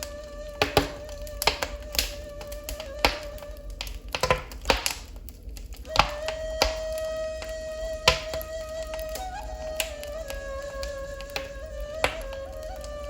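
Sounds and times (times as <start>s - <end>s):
held flute note: 0.0s - 4.2s, 5.8s - 13.0s
wood fire crackling: 0.0s - 13.0s.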